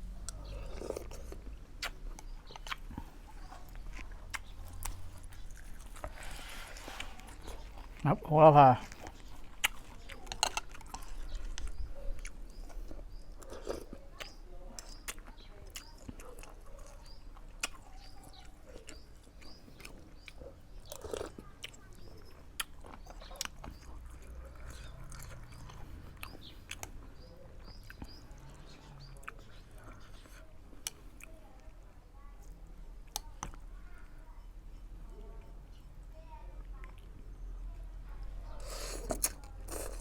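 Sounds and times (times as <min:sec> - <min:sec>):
person chewing and eating: 0:00.0 - 0:31.8, 0:38.2 - 0:40.0.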